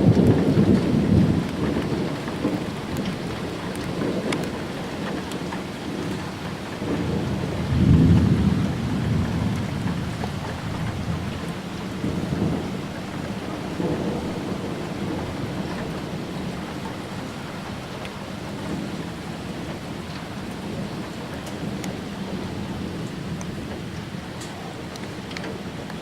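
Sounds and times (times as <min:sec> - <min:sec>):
steady rain: 0:00.0 - 0:26.0
thunder rumbling: 0:00.0 - 0:26.0.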